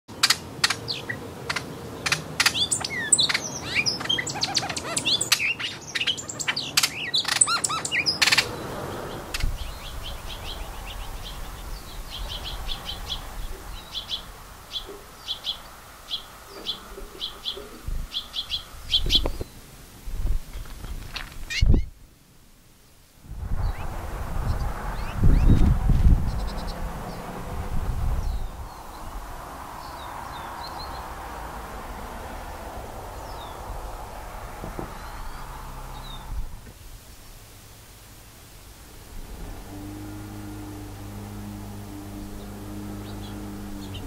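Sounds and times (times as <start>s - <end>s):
songbirds chirping: 0.1s - 44.0s.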